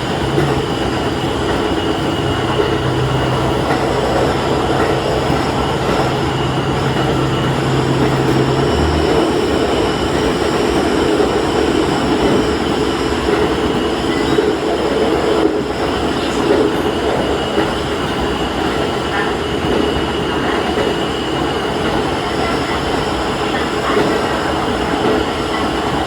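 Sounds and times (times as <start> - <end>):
diesel railcar engine: 0.0 - 26.0
train wheels on rail: 0.0 - 26.0.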